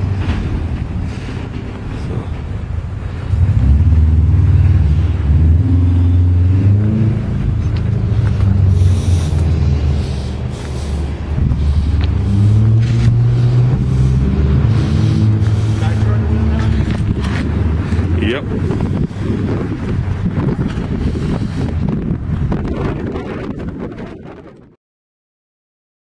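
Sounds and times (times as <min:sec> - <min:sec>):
car engine revving: 0:00.0 - 0:23.6.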